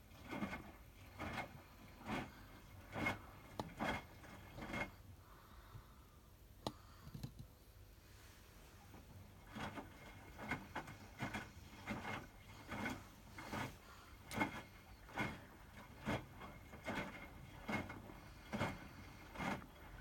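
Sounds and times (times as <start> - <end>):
laundry and water sloshing: 0.0 - 5.6, 8.2 - 20.0
washing machine hum: 0.0 - 20.0.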